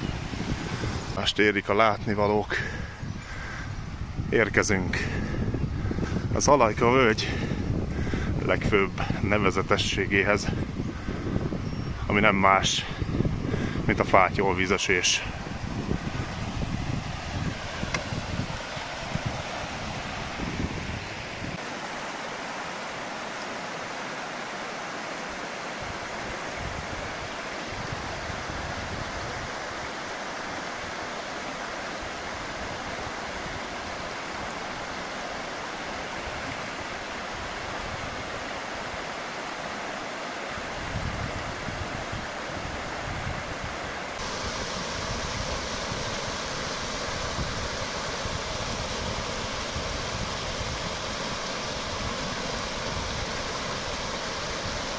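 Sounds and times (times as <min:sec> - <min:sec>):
waterfall rushing: 0:00.0 - 0:03.6, 0:12.6 - 0:54.9.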